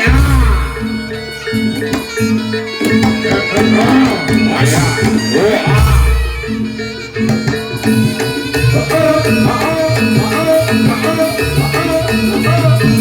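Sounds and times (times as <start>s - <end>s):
hand drums beating: 0.0s - 13.0s
tuned metal percussion: 0.0s - 13.0s.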